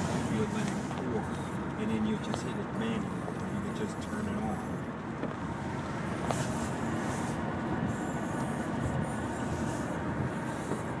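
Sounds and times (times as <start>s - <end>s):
vehicle rumbling in motion: 0.0s - 11.0s.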